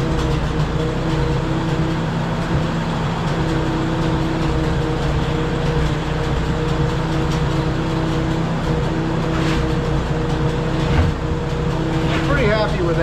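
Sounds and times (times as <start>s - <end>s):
dozer engine humming: 0.0s - 13.0s.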